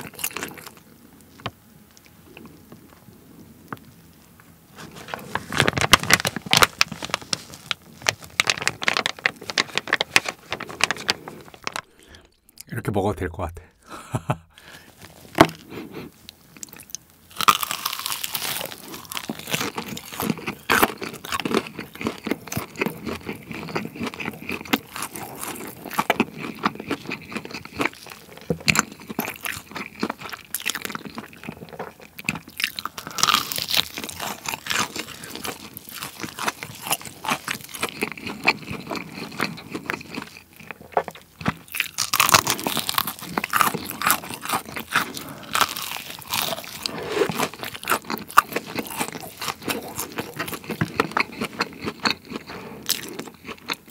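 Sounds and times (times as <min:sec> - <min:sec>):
crunching fried chicken: 0:00.0 - 0:04.1, 0:04.7 - 0:12.6, 0:14.6 - 0:53.9.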